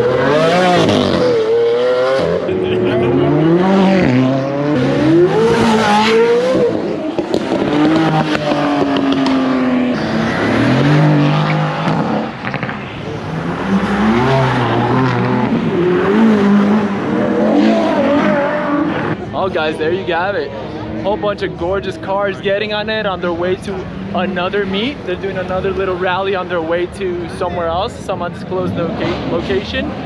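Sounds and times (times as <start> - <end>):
supercars accelerating hard: 0.0 - 30.0.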